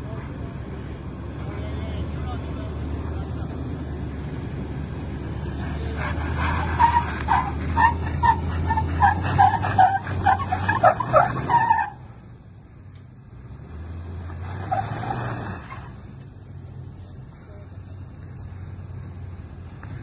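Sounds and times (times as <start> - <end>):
truck engine pulling under load: 0.0 - 20.0.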